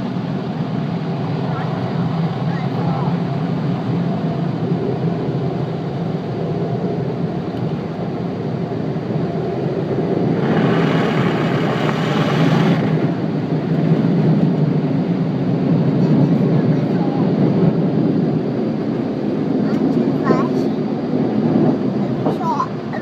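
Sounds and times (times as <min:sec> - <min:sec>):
blower dryers roaring: 0:00.0 - 0:23.0.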